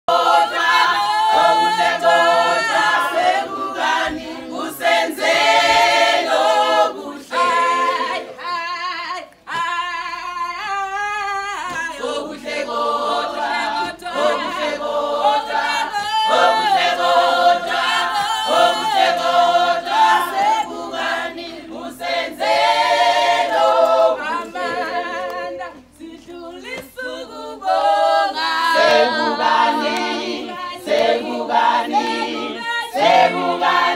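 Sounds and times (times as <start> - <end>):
choir singing a cappella: 0.0 - 33.9.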